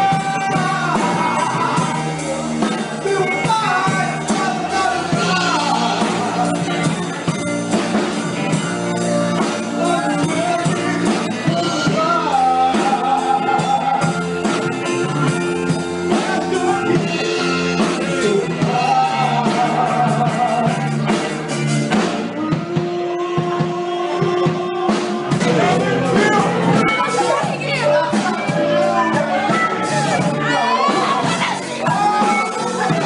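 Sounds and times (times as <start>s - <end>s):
band with drums playing: 0.0s - 33.0s.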